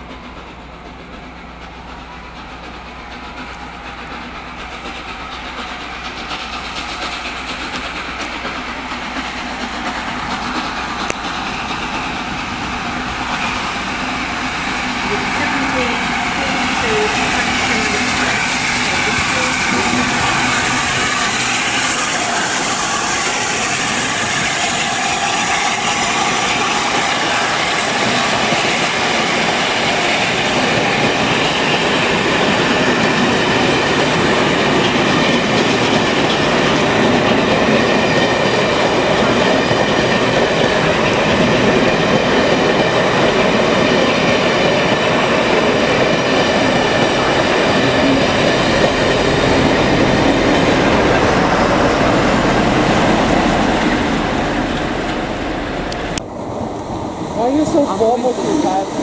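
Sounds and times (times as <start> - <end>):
train wheels clattering over rails: 0.0 - 56.8.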